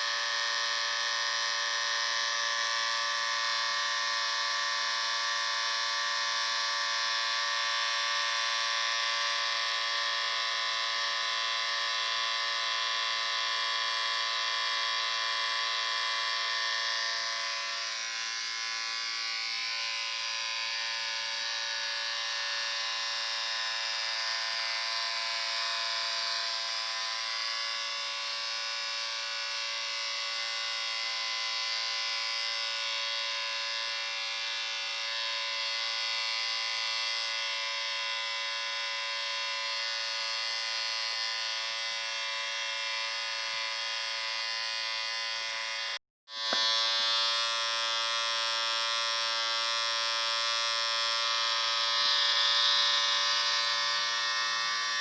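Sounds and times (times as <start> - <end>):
electric shaver buzzing: 0.0 - 55.0.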